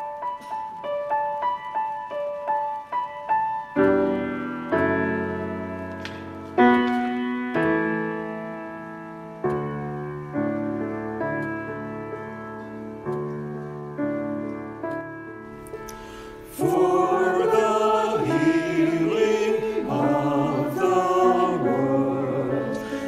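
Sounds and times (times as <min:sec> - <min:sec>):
piano playing: 0:00.0 - 0:23.0.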